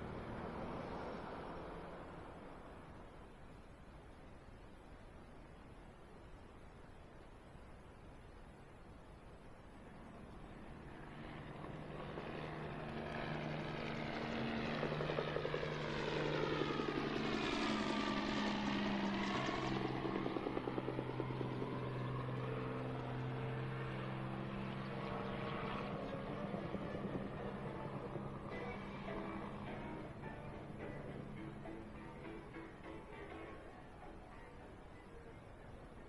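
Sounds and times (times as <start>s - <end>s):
aircraft engine flying overhead: 0.0s - 36.0s.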